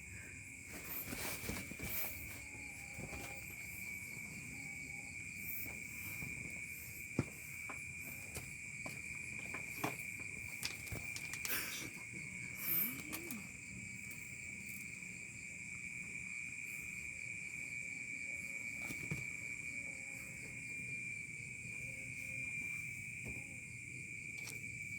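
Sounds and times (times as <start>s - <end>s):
crickets chirring: 0.0s - 24.9s.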